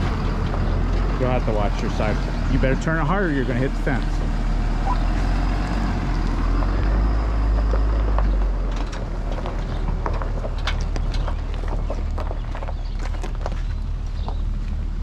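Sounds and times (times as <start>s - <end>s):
gravel crunching: 0.0s - 15.0s
motorhome engine running: 0.0s - 15.0s.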